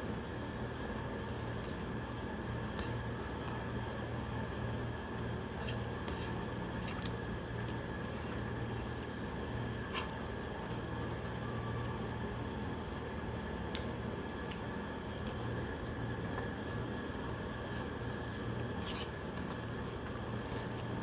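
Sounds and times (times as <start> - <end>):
background hum: 0.0 - 21.0
wet squishing of food mixed by hand: 0.0 - 21.0.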